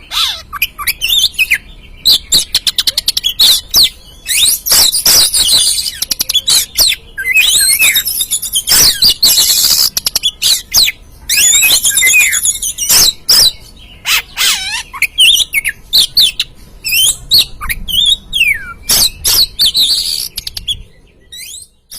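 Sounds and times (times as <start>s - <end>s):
magpie-robin singing: 0.0s - 21.9s.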